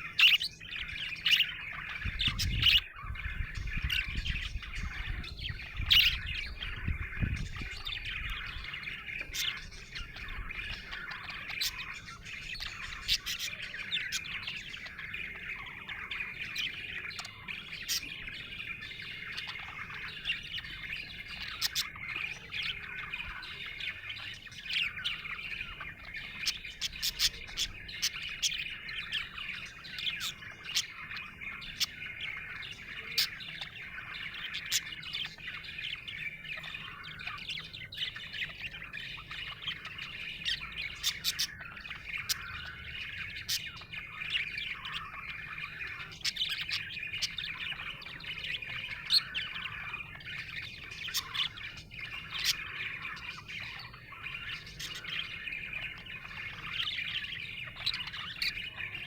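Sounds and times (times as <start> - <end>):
budgerigars chirping: 0.0 - 59.0.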